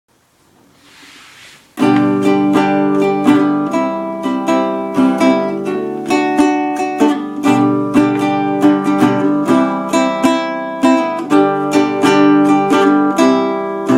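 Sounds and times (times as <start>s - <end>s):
plucked string instrument strumming: 1.8s - 13.9s.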